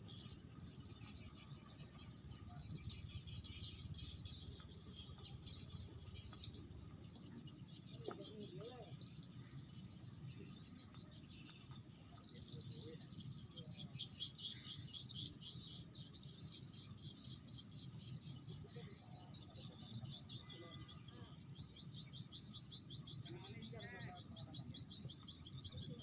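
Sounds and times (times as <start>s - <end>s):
insects pulsing trill: 0.0s - 26.0s.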